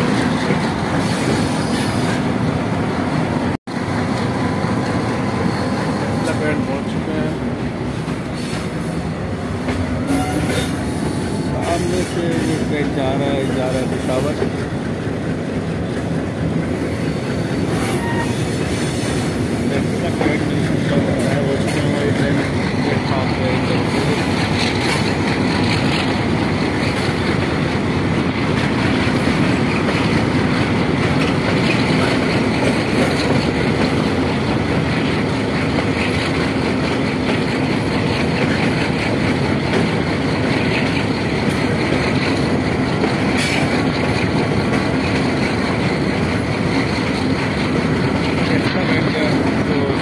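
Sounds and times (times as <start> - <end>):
train wheels on track: 0.0 - 50.0.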